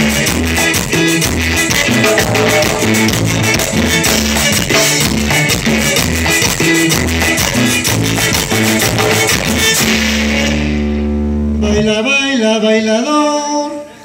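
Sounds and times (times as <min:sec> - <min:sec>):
instrumental dance music: 0:00.0 - 0:11.9.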